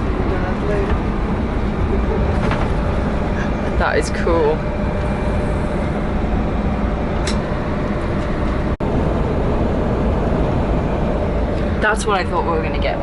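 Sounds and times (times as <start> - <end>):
jet cabin engine rumble: 0.0 - 13.0.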